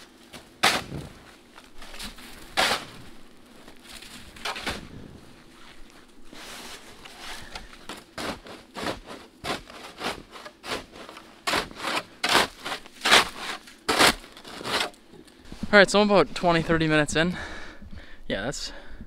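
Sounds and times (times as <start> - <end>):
shovel scraping snow: 0.0 - 15.6.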